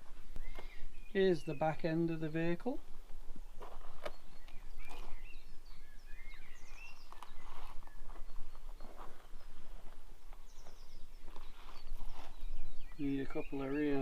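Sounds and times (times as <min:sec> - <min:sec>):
birds chirping and singing: 0:00.0 - 0:14.0
outdoor background noise: 0:00.0 - 0:14.0.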